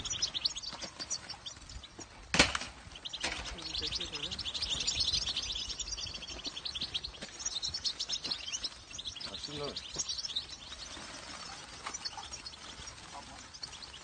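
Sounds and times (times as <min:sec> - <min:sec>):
goldfinches twittering: 0:00.0 - 0:14.0.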